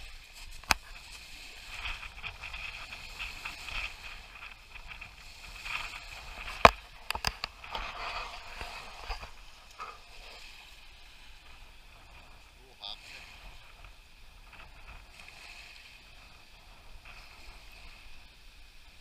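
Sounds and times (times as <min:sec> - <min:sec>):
waves lapping on pebbles: 0:00.0 - 0:19.0.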